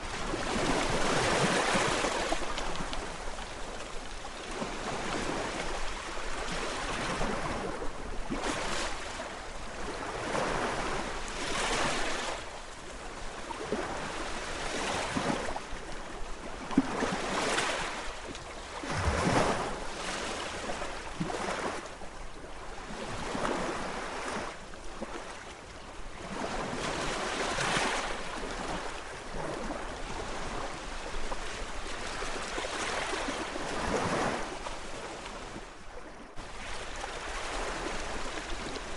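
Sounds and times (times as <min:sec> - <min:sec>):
sea waves washing ashore: 0:00.0 - 0:38.9.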